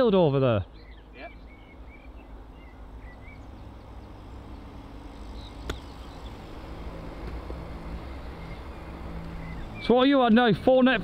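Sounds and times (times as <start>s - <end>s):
steady low hum: 0.6s - 9.9s.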